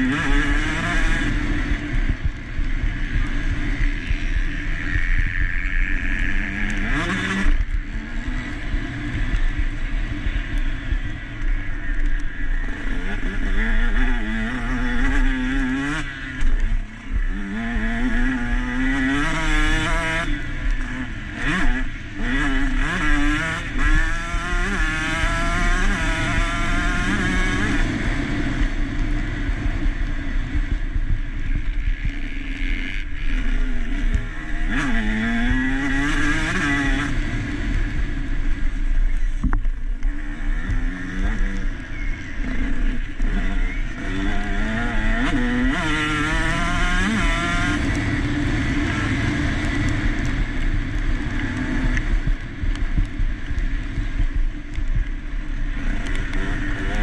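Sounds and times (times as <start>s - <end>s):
motocross engine revving: 0.0s - 11.1s, 11.8s - 52.7s, 55.6s - 57.0s.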